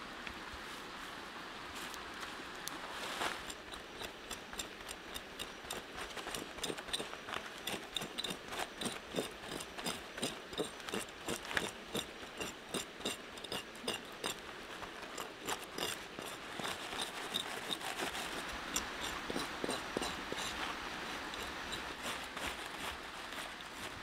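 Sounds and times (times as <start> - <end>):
knife scraping scaly hide: 3.2 - 24.0.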